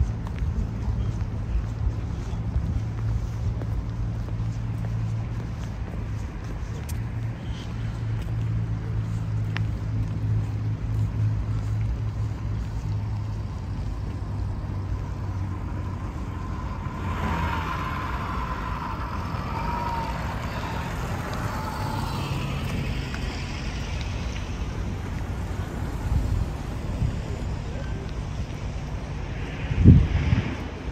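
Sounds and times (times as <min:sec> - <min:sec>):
cars driving past: 0:00.0 - 0:30.9
low engine hum: 0:00.0 - 0:30.9.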